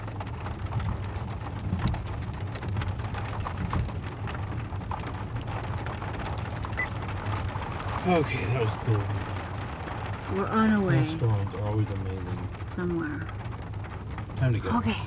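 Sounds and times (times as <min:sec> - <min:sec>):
ice pellets and rain on windshield: 0:00.0 - 0:15.0
windshield wiper: 0:00.0 - 0:15.0.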